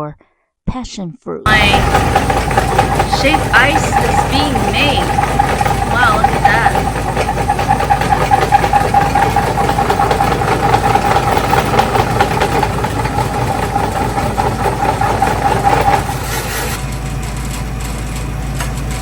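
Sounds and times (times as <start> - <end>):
shave ice machine scraping ice: 1.5 - 19.0.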